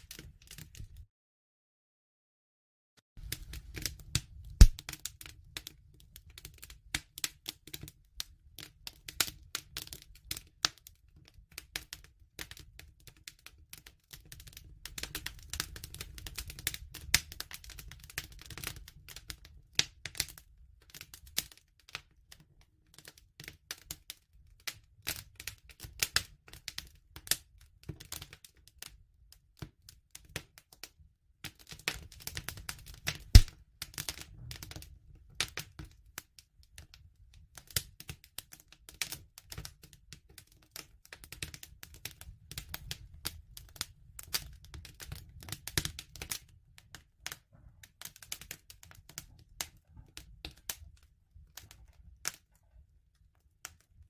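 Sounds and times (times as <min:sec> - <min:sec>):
wood fire crackling: 0:03.2 - 0:29.0, 0:31.4 - 0:54.0.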